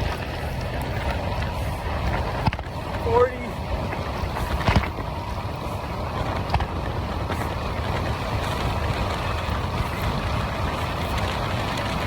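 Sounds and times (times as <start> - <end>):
tyre road noise: 0.0 - 12.0
wind rushing over microphone: 0.0 - 12.0.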